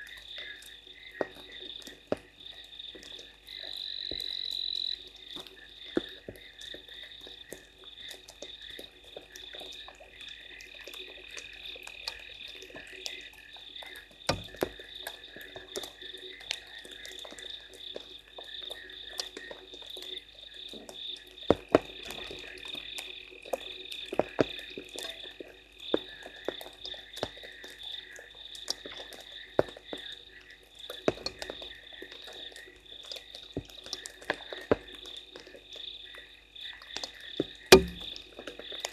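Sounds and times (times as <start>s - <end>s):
frogs calling: 0.0s - 38.9s
rain drops ticking: 0.0s - 38.9s.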